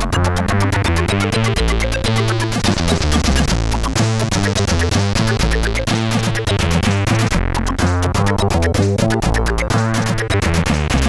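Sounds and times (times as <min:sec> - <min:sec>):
electronic chip music: 0:00.0 - 0:11.0.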